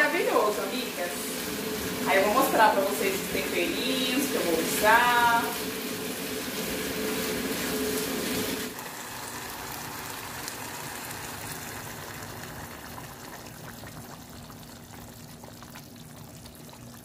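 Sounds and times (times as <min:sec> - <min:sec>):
water pouring into saucepan: 0:00.0 - 0:17.0.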